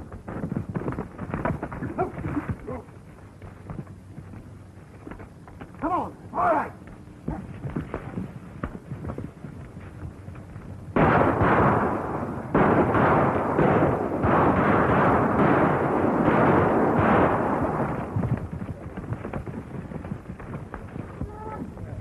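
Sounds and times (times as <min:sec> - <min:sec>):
horses galloping: 0:00.0 - 0:22.0.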